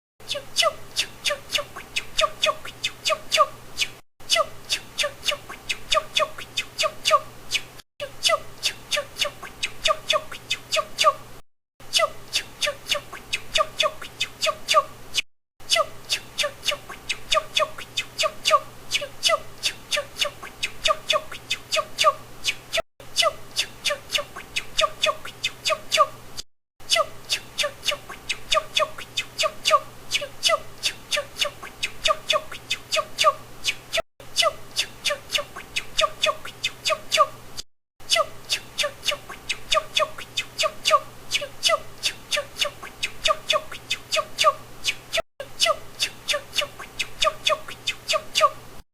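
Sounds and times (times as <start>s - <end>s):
person making squeaky chirps: 0.2s - 15.0s, 15.7s - 26.2s, 26.9s - 37.4s, 38.1s - 48.6s.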